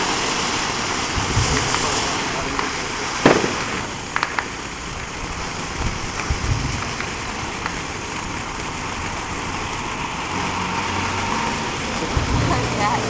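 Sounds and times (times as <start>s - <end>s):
fireworks crackles and pops: 0.0s - 13.0s
fireworks rushing hiss: 0.0s - 13.0s.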